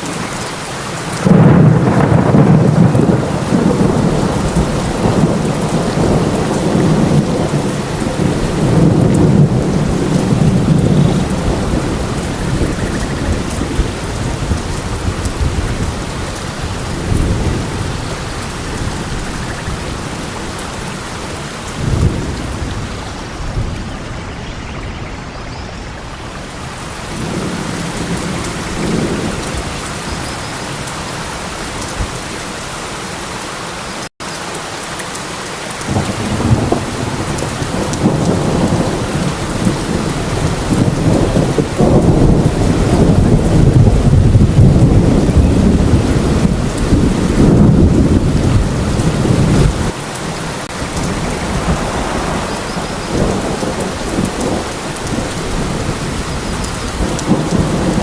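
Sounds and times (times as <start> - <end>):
heavy rain: 0.0 - 58.0
rolling thunder: 1.1 - 25.0, 25.6 - 30.8, 35.9 - 50.0, 50.6 - 58.0.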